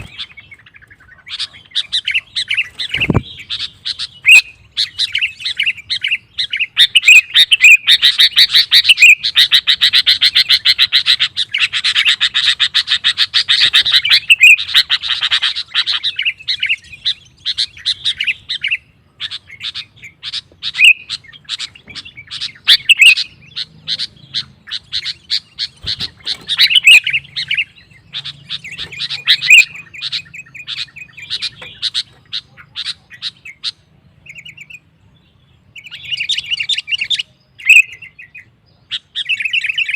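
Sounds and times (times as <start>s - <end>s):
bulbul singing rapid chattering notes: 0.0s - 34.8s.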